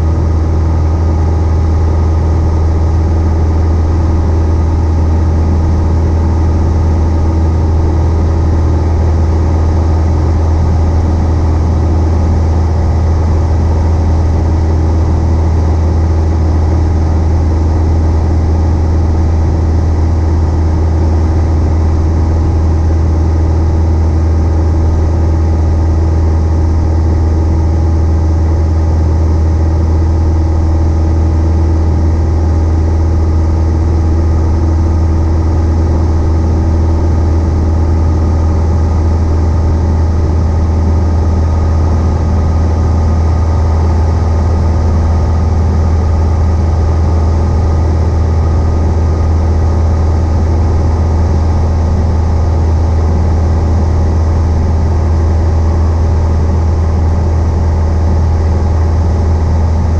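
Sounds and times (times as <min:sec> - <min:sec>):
light airplane engine hum: 0:00.0 - 0:59.9.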